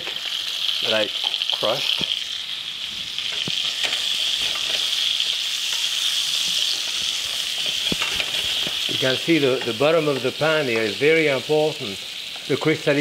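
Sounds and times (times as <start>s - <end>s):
onion sizzling in a pan: 0.0s - 13.0s.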